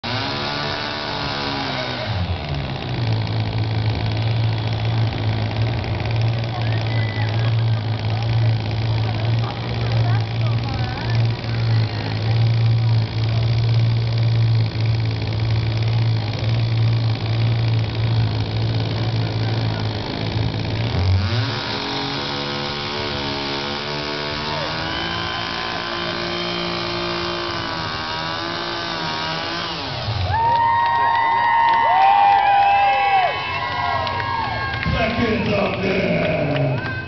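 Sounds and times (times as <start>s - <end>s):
chainsaw idling and revving: 0.0s - 37.0s.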